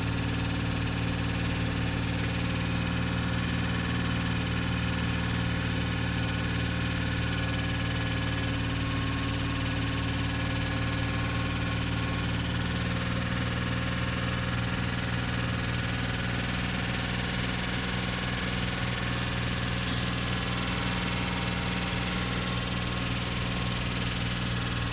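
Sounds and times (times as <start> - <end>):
car engine idling with knocking: 0.0 - 24.9.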